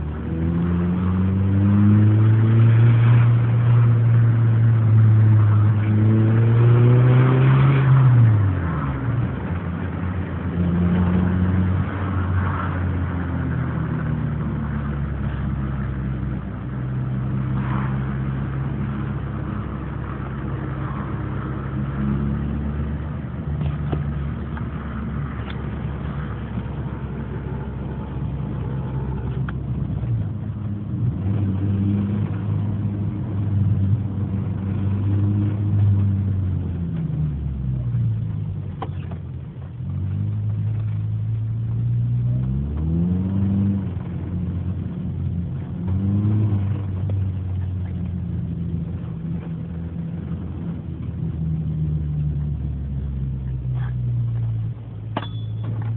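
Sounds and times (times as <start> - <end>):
car engine revving and idling: 0.0 - 55.9.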